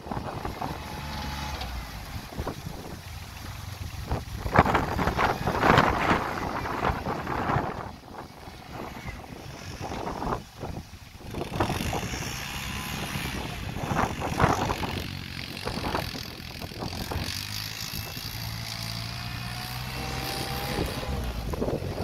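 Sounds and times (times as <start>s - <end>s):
diesel engine running: 0.0s - 22.0s
wind buffeting microphone: 0.0s - 22.0s.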